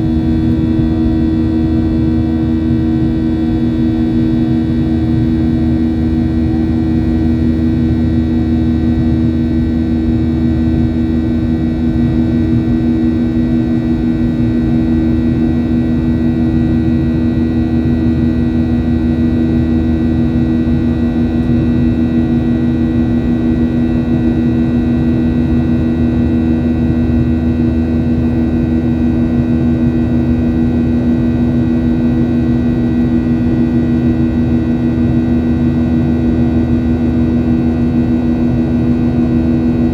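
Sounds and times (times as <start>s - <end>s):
jet engines drone in cabin: 0.0s - 39.9s.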